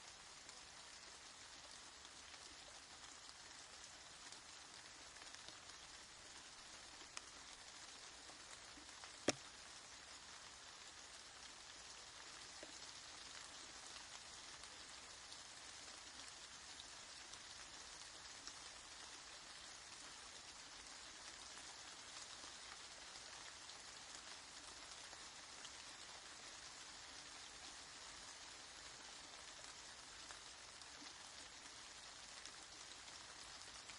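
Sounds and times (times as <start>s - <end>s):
quiet rain pattering: 0.0s - 33.9s.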